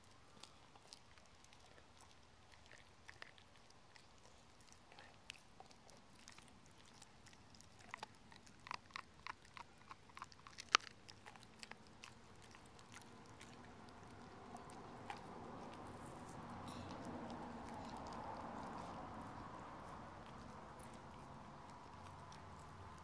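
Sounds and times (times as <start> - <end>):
dog chewing bone: 0.0 - 23.0
teeth cracking on bone: 0.1 - 23.0.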